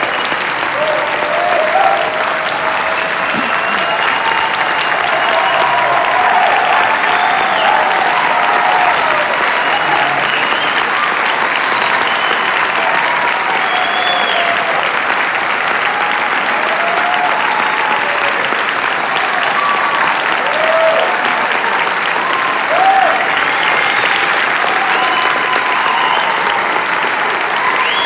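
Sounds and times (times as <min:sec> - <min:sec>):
audience applause: 0:00.0 - 0:28.0
crowd cheers and whoops: 0:00.0 - 0:28.0.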